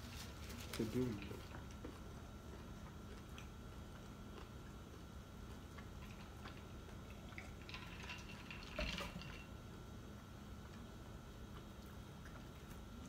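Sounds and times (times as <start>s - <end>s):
faint chewing: 0.0s - 8.6s, 10.1s - 13.0s
steady faint hum: 0.0s - 13.0s.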